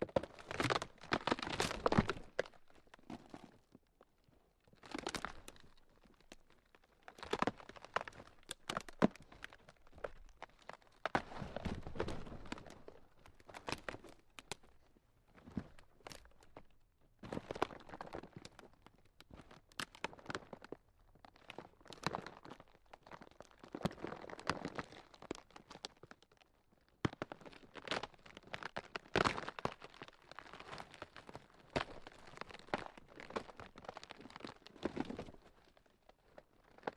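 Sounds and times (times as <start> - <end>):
ground cracking and crunching: 0.0 - 36.9.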